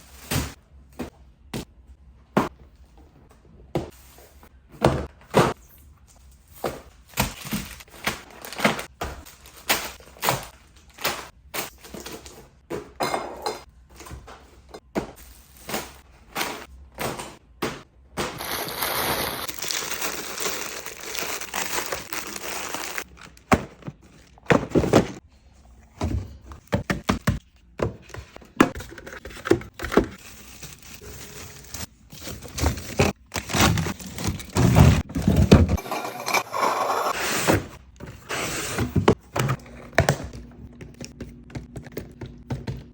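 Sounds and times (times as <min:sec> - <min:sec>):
groceries knocking and thunking: 0:00.0 - 0:05.6, 0:06.5 - 0:25.2, 0:25.9 - 0:36.5, 0:37.7 - 0:42.9.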